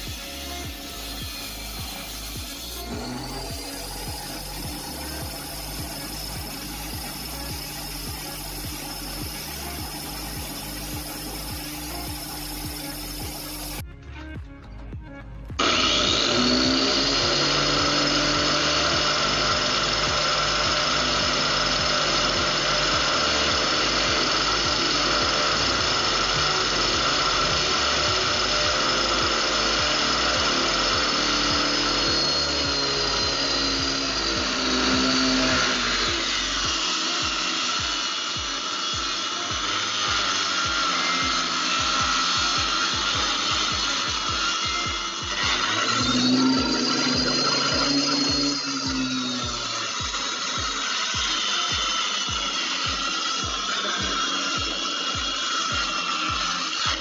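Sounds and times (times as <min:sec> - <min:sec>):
table saw ripping wood: 0:00.0 - 0:13.8, 0:15.6 - 0:57.0.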